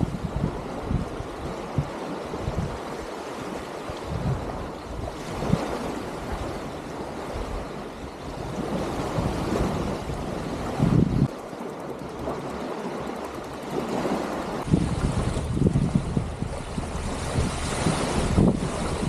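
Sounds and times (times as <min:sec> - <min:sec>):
small waves washing on sand: 0:00.0 - 0:19.0
wind buffeting microphone: 0:00.0 - 0:19.0.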